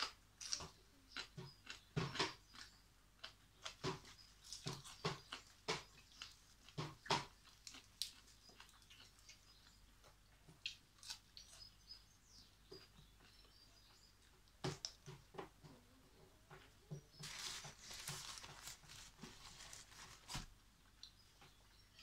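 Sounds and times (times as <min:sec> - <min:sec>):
person chewing leafy vegetables: 0:00.0 - 0:15.6, 0:16.4 - 0:22.0.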